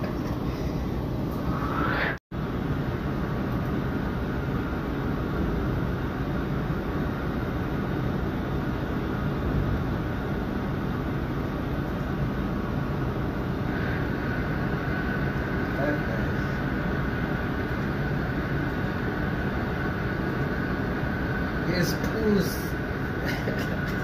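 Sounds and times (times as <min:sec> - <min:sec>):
low rumble with hiss: 0:00.0 - 0:24.0.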